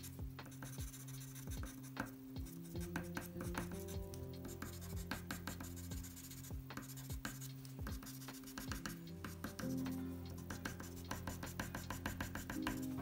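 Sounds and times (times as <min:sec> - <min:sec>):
background music: 0:00.0 - 0:13.0
pencil scratching on paper: 0:00.0 - 0:13.0.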